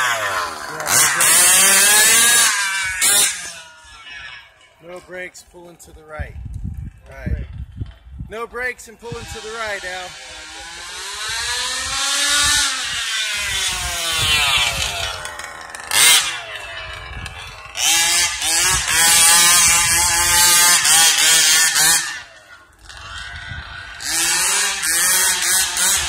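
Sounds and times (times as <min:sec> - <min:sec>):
rc buggy engine revving: 0:00.0 - 0:04.8, 0:09.0 - 0:26.0.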